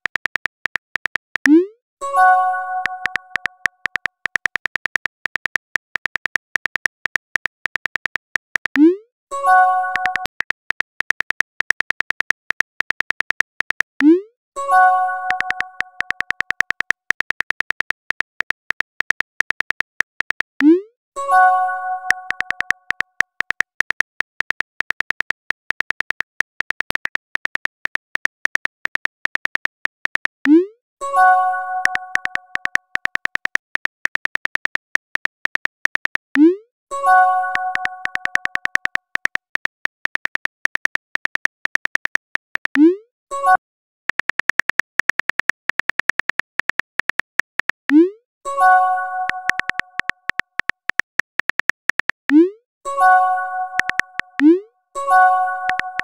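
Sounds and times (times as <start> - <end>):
keyboard typing clicks: 0.0 - 56.0.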